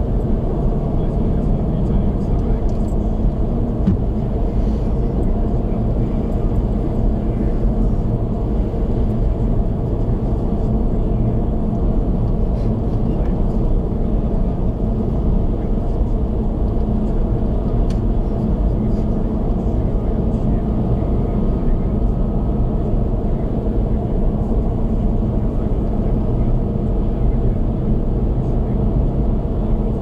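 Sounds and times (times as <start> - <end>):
car cabin road and engine rumble: 0.0 - 30.0.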